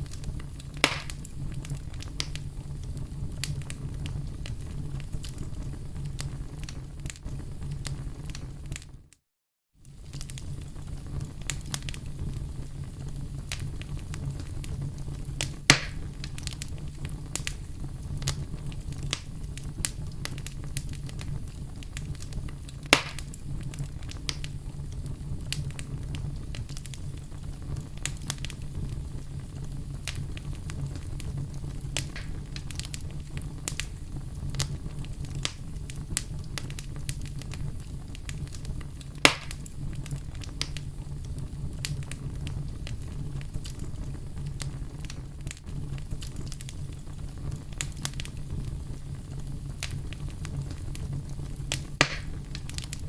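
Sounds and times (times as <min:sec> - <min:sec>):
loud fire pops: 0:00.0 - 0:09.1, 0:09.8 - 0:53.0
wood fire crackling: 0:00.0 - 0:09.2, 0:09.8 - 0:53.0.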